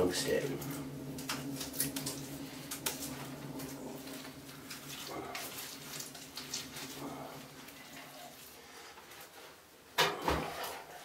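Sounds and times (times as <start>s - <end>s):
kindling crackling: 0.0s - 9.6s
steady low hum: 0.0s - 10.6s.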